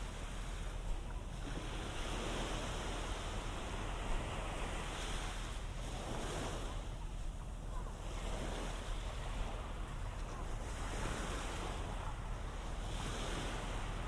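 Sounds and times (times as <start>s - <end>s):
ocean waves on beach: 0.0s - 14.0s
wind on microphone: 0.0s - 14.0s.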